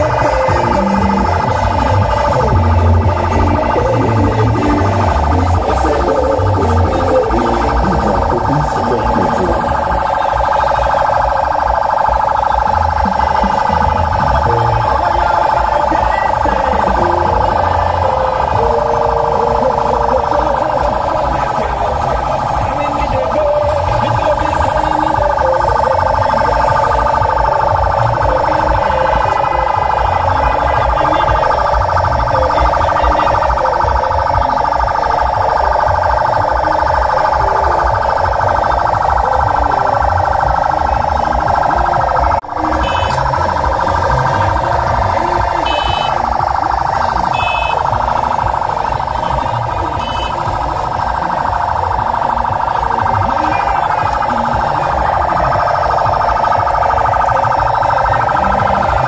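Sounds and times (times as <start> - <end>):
crowd voices: 0.0 - 59.0
siren blaring: 0.0 - 59.0
traffic rumble: 0.0 - 59.0.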